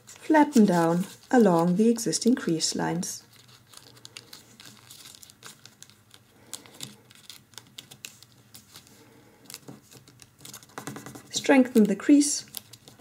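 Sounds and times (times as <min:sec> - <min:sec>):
paper crinkling and creasing: 0:00.0 - 0:13.0.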